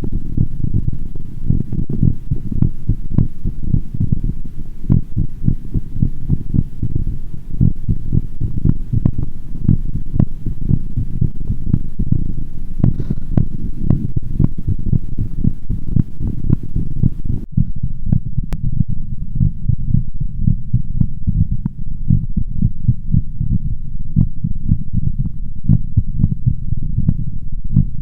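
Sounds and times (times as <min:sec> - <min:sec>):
fast heartbeat thumps: 0:00.0 - 0:28.0.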